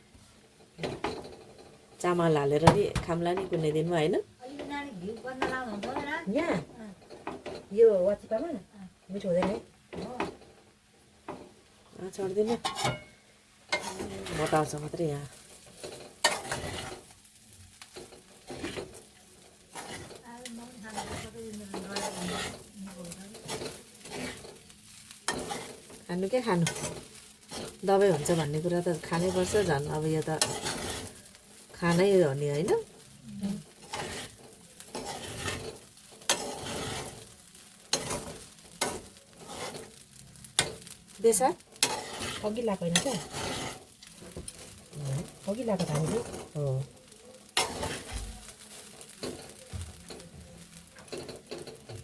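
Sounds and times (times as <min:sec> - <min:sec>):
low sizzle: 0:00.0 - 0:52.0
utensil scraping a pan: 0:09.2 - 0:52.0.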